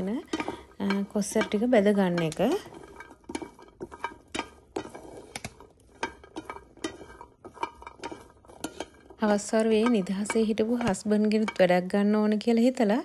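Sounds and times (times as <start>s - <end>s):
seeds clicking in metal pan: 0.0s - 12.8s.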